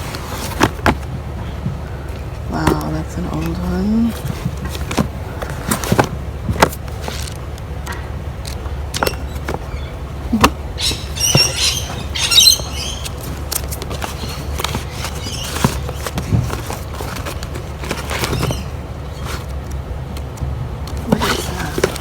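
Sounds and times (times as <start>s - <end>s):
crinkly rustling: 0.0s - 22.0s
knocks and taps of books: 0.0s - 22.0s.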